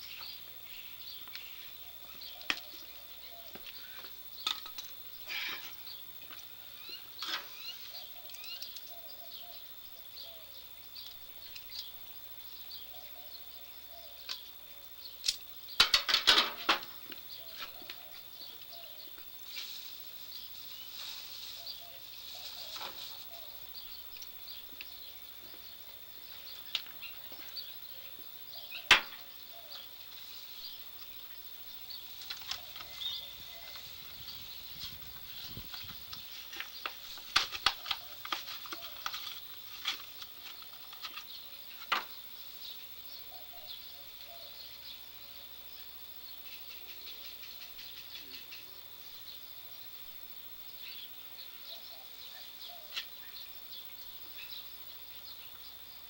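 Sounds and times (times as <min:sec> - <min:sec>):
insect chirring: 0:00.0 - 0:56.0.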